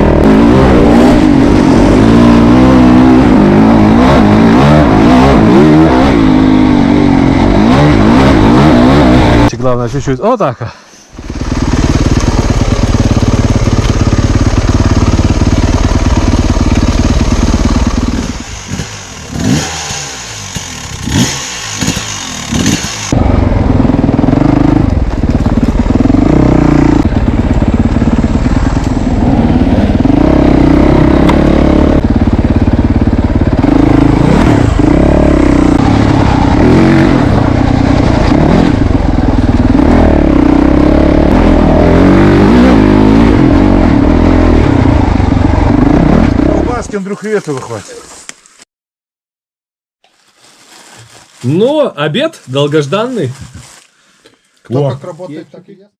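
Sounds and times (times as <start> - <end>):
engine running and revving: 0.0 - 9.6, 11.2 - 46.8.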